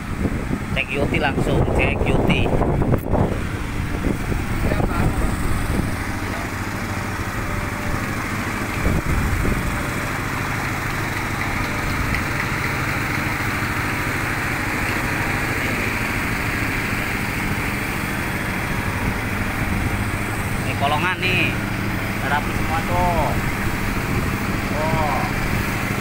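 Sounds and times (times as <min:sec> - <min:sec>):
excavator diesel engine idling: 0:00.0 - 0:26.0.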